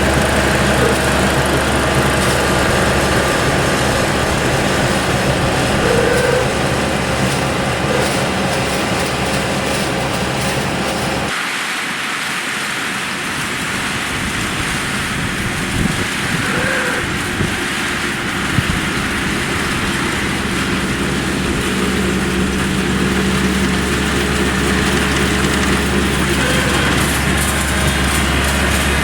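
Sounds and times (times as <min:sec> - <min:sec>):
combine harvester running: 0:00.0 - 0:29.0.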